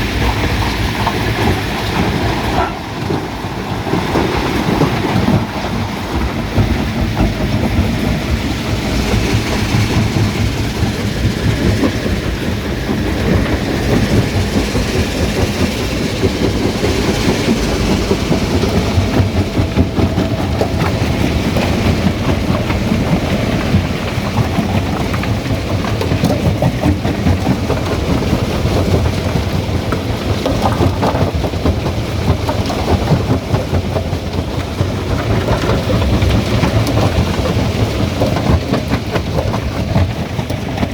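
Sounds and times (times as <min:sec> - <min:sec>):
stone crusher rumbling: 0:00.0 - 0:40.9.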